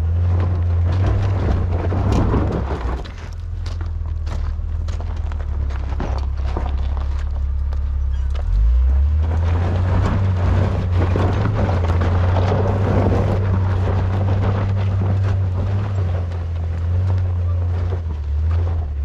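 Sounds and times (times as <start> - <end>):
car engine droning: 0.0 - 19.0
clicks and crunches: 0.3 - 19.0.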